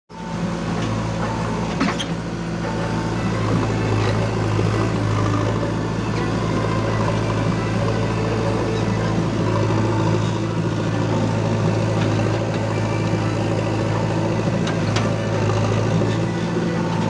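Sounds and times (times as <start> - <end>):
diesel engine humming: 0.1 - 17.0.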